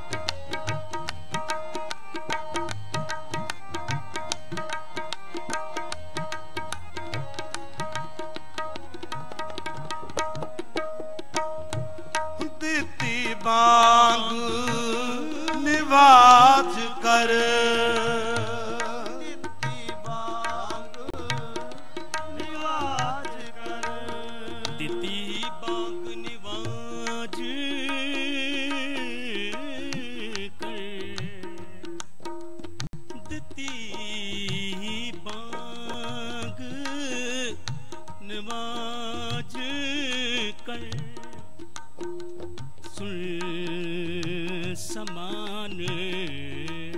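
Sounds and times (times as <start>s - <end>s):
harmoniums playing melody: 0.0s - 46.9s
tabla rhythm: 0.0s - 46.9s.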